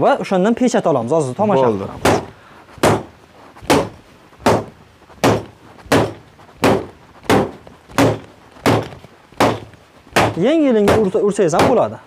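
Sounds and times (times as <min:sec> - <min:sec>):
hammer blows: 0:02.0 - 0:12.0.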